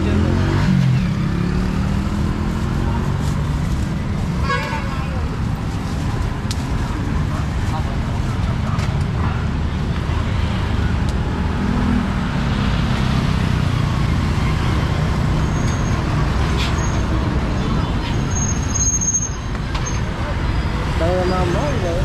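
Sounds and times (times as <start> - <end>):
passing vehicle engines: 0.0 - 22.0.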